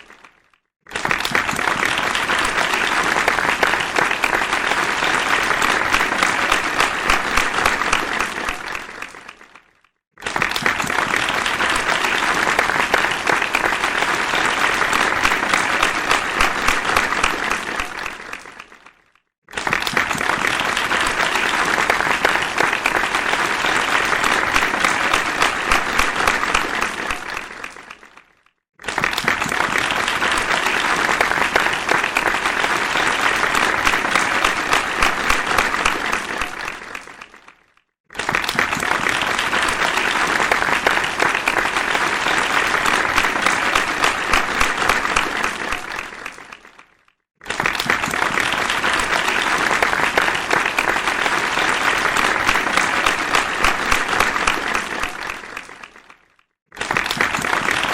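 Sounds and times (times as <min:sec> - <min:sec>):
crowd applause: 0:00.0 - 0:57.9.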